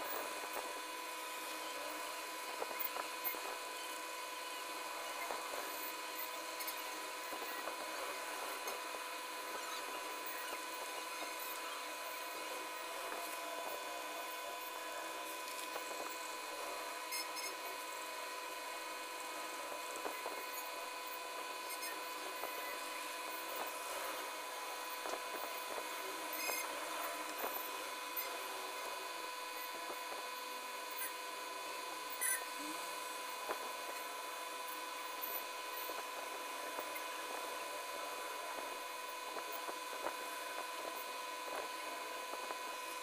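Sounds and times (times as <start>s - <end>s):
steady high-pitched whine: 0.0s - 43.0s.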